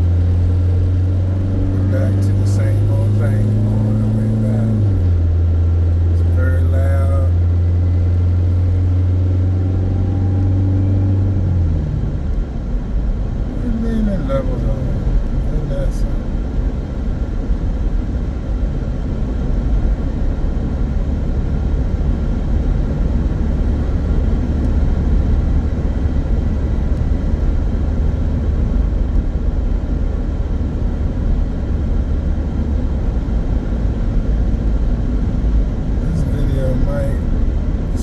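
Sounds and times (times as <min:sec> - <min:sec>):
car engine drone inside cabin: 0:00.0 - 0:38.0.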